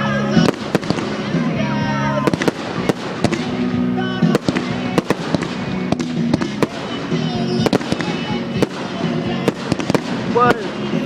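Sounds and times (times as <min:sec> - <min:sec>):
fireworks bangs and crackles: 0:00.2 - 0:11.0.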